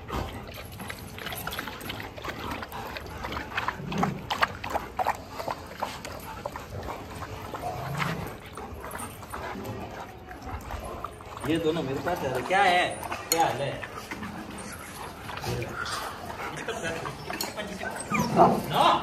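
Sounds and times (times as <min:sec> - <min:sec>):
dog growling low: 0:00.0 - 0:19.0
dogs sniffing and scuffling: 0:00.0 - 0:19.0.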